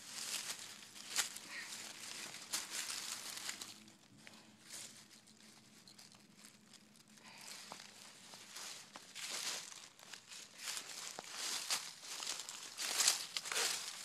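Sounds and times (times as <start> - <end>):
rustling and crunching: 0.0 - 14.0.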